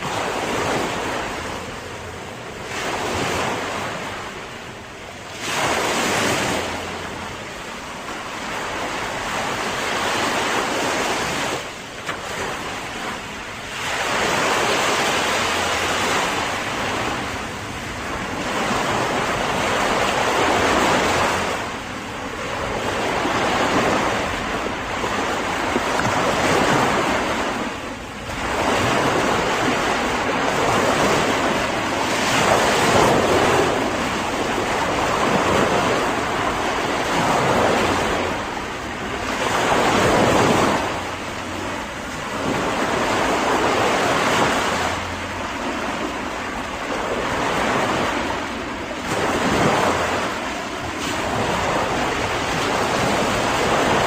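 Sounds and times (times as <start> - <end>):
waves breaking: 0.0 - 54.0
wind rumbling on microphone: 0.0 - 54.0.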